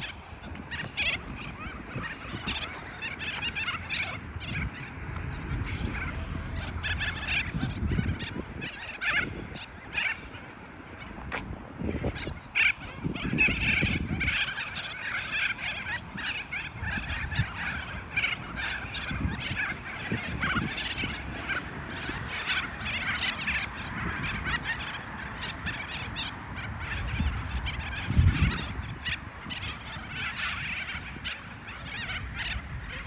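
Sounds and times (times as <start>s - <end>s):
flock of birds chattering: 0.0s - 33.0s.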